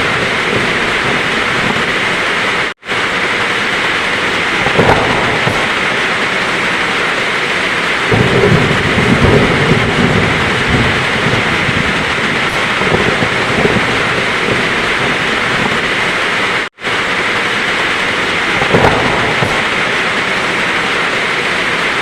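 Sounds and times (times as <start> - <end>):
heavy rain: 0.0 - 22.0
rolling thunder: 0.0 - 22.0.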